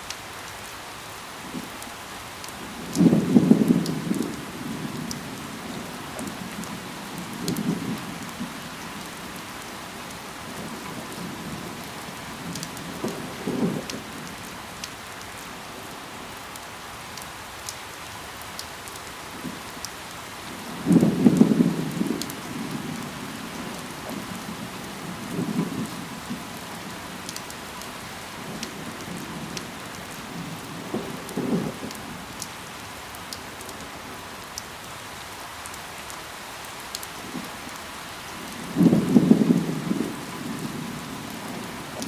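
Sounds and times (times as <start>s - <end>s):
rain falling on foliage: 0.0s - 42.0s.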